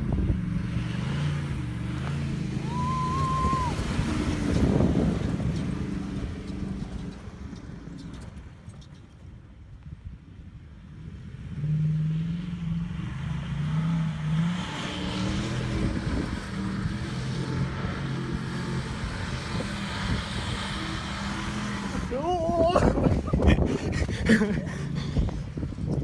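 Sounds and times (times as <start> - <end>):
truck engine drone: 0.0 - 9.6, 10.7 - 26.0.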